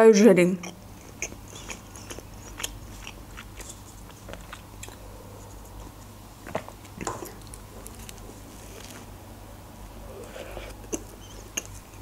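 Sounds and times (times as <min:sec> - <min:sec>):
person chewing: 0:00.6 - 0:09.0, 0:10.1 - 0:12.0.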